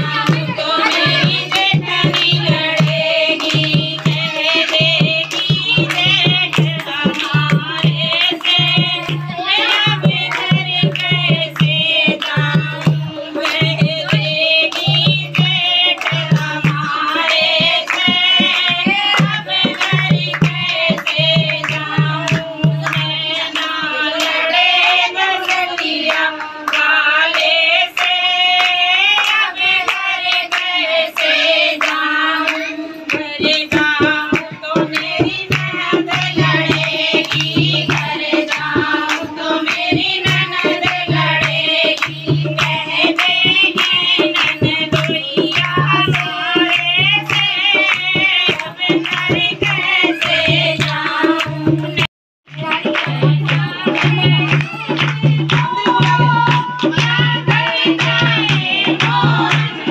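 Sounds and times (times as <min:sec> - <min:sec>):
hand drum beat: 0:00.0 - 0:27.0, 0:28.2 - 0:59.9
rhythmic hand clapping: 0:00.0 - 0:59.9
women singing devotional song: 0:00.0 - 0:59.9.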